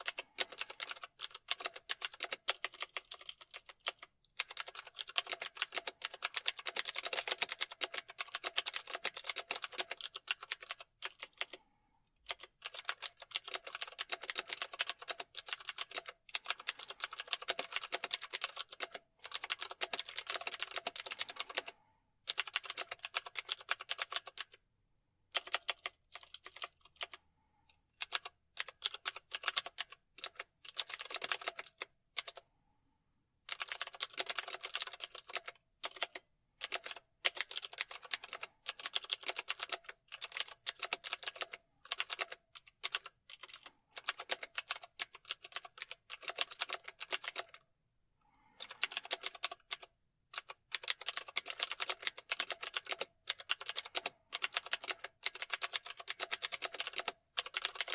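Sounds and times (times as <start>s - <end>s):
computer keyboard typing: 0.0s - 11.6s, 12.2s - 24.6s, 25.3s - 27.2s, 28.0s - 32.4s, 33.5s - 47.6s, 48.4s - 57.9s.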